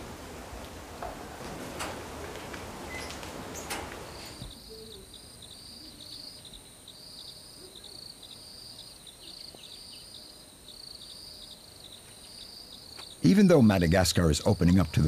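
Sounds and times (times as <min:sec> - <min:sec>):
insects chirping buzzy trills: 0:00.0 - 0:15.0.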